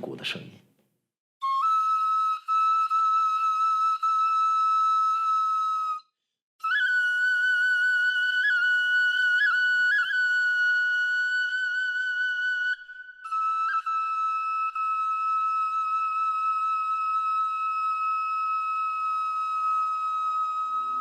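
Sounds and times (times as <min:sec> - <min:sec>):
bone flute playing: 0:01.4 - 0:06.0, 0:06.6 - 0:21.0.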